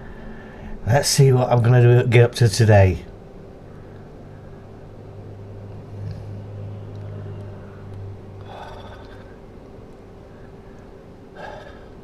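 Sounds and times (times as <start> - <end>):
constant tone: 0.0 - 12.0
low mechanical hum: 0.0 - 12.0.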